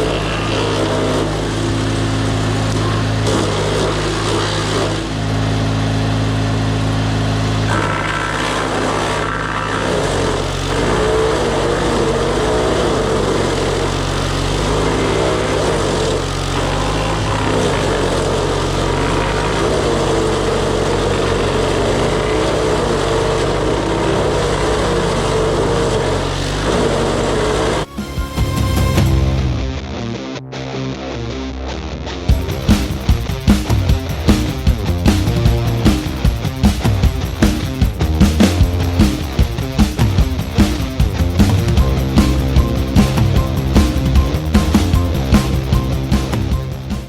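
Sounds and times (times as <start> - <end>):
wood chipper engine running: 0.0 - 29.8, 32.3 - 47.0.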